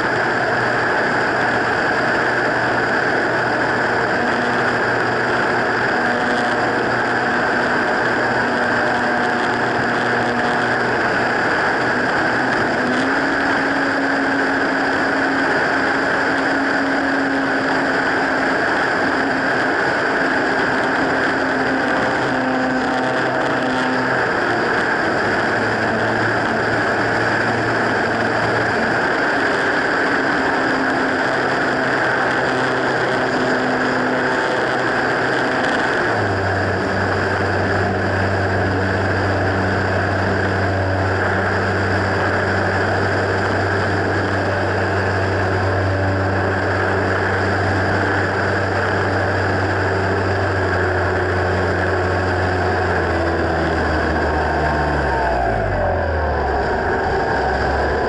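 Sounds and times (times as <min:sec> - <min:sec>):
electric motor and propeller whine: 0:00.0 - 0:58.0.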